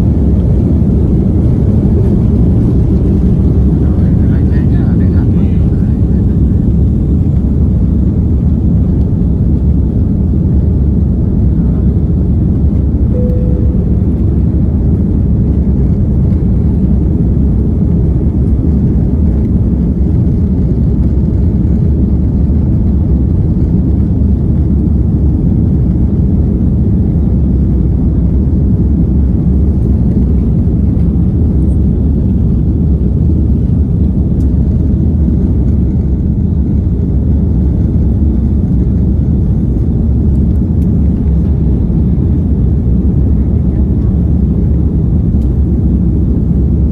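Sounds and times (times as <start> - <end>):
airliner cabin engine noise: 0.0 - 46.9.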